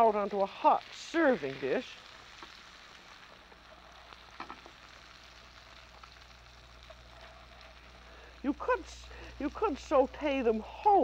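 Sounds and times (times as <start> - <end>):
faint frying in butter: 0.0 - 11.0.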